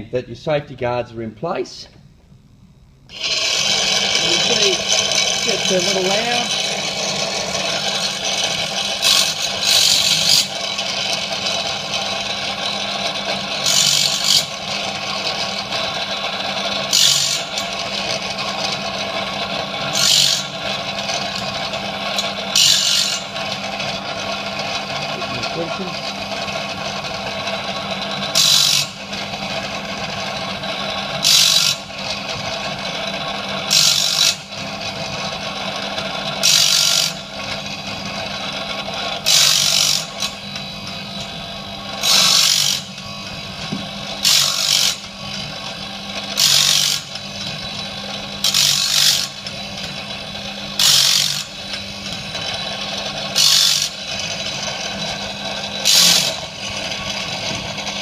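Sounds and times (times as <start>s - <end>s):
grinding wheel grinding blade teeth: 3.1s - 58.0s
grinding wheel humming: 3.1s - 58.0s.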